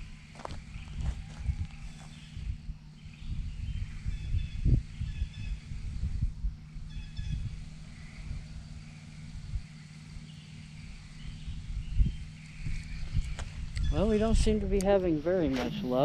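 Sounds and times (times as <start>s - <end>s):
birds chirping: 0.0s - 16.0s
steady low rumble: 0.0s - 16.0s.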